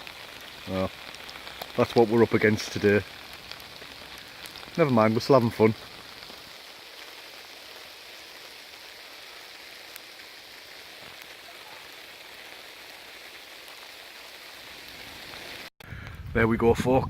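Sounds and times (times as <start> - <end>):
steady rain: 0.0 - 15.7.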